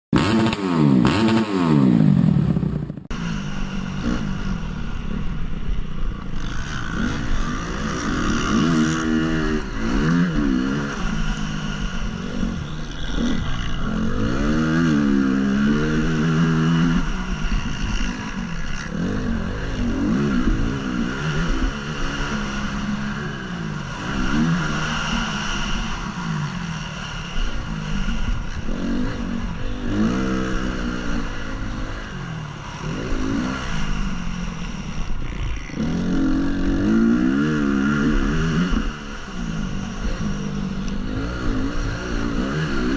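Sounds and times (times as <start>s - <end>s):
motocross engine revving: 0.1s - 42.9s.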